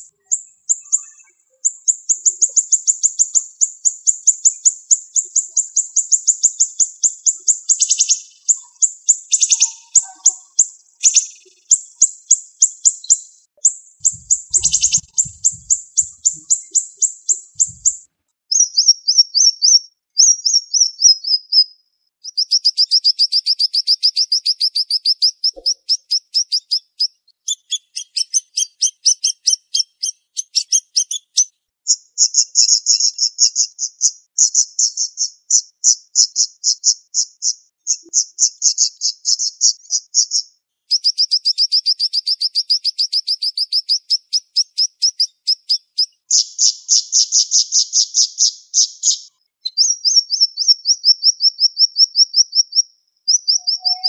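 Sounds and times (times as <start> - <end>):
songbird singing high chirps: 0.0 - 35.4, 36.3 - 54.0.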